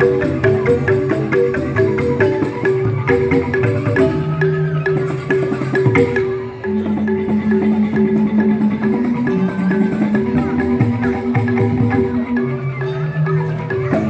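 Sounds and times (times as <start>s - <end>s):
bamboo xylophones: 0.0s - 14.0s
percussion strokes: 0.0s - 14.0s.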